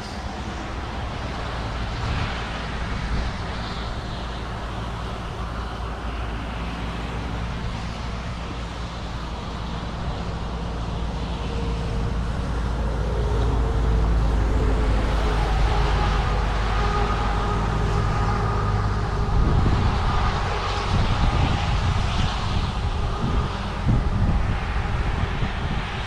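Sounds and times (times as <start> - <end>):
road and engine noise: 0.0 - 26.0.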